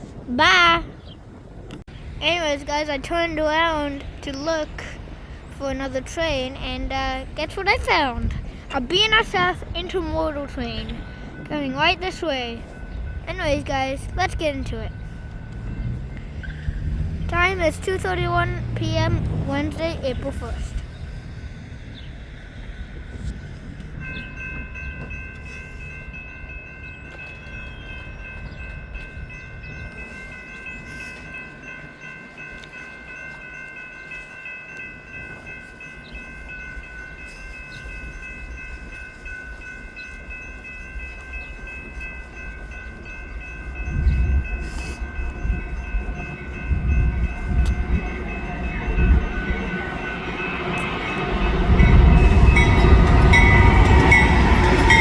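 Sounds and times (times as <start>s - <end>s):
low rumble of train: 0.0s - 55.0s
railroad crossing bells ringing: 0.1s - 55.0s.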